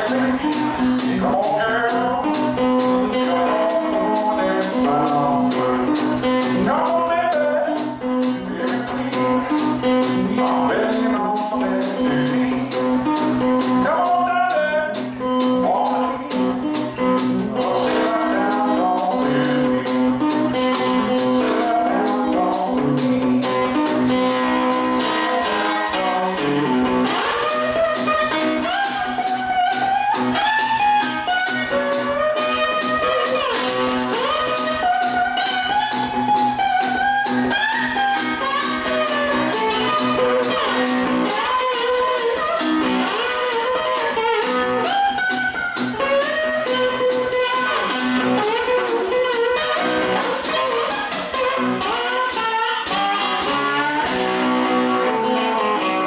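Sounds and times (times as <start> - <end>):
blues guitar with bending notes: 0.0 - 56.0.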